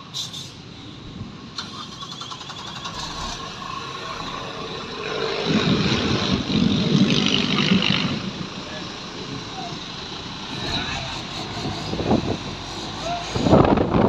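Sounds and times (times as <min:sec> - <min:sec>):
big truck engine running: 0:00.0 - 0:14.0.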